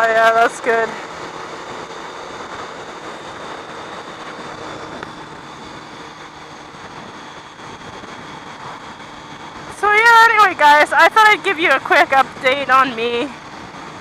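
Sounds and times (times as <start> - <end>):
motorcycle engine cruising: 0.0 - 14.0
wind rush: 0.0 - 14.0.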